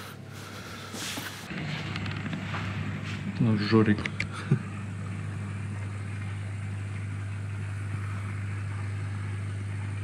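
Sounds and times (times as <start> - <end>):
aquarium pump humming: 0.0 - 10.0.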